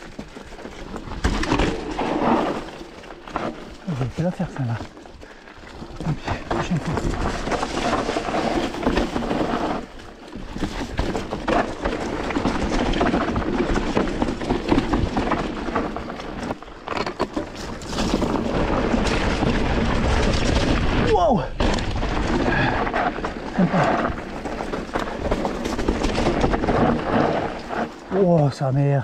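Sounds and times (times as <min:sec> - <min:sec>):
bike rattling and knocking: 0:00.0 - 0:29.0
bike tyres on dirt and rock: 0:00.0 - 0:29.0.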